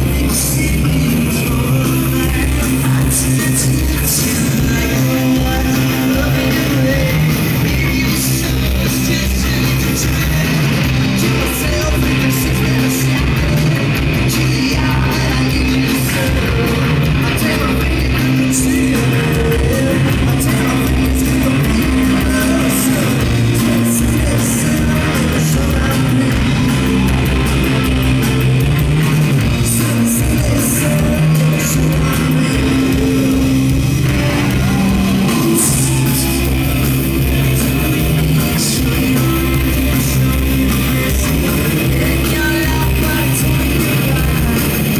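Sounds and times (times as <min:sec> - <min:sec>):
bass guitar: 0:00.0 - 0:44.9
distorted electric guitar: 0:00.0 - 0:44.9
drums with cymbals: 0:00.0 - 0:44.9
person singing: 0:00.0 - 0:44.9.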